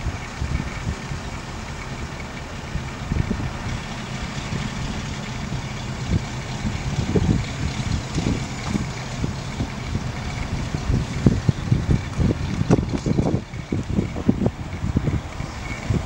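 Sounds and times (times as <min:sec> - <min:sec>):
crane diesel engine running: 0:00.0 - 0:16.0
wind buffeting microphone: 0:00.0 - 0:16.0.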